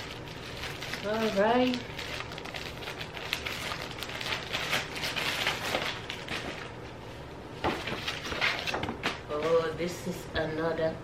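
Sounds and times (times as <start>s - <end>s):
plastic packaging rustling: 0.0s - 7.0s, 7.7s - 9.6s.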